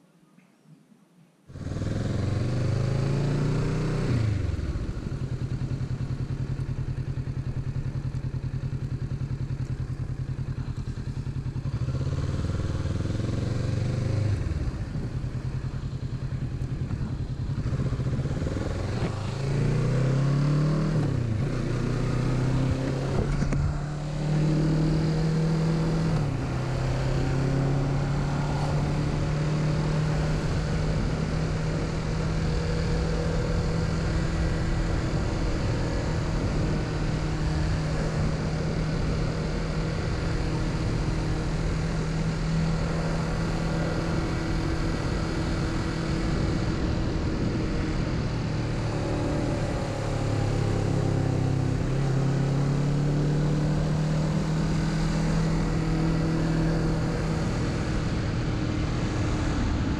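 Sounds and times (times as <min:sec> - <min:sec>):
motorcycle engine running: 0:01.5 - 0:59.9.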